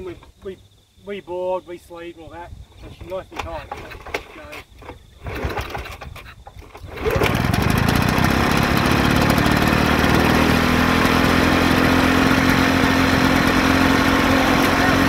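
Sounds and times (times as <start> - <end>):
lawnmower engine pull-started: 2.9 - 15.0.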